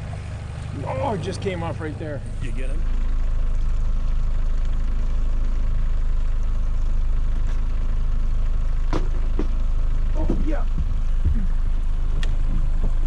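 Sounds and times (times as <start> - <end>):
outboard motor low drone: 0.0 - 13.0.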